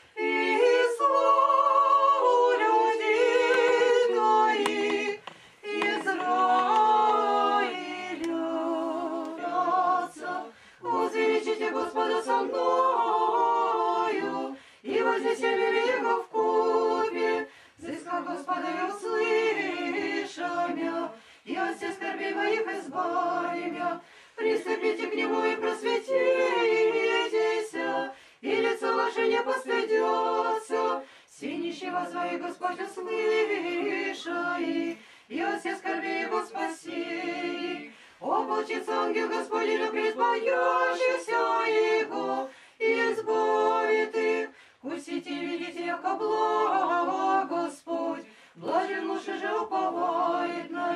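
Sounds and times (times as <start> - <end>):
choir chanting unaccompanied: 0.0 - 50.9.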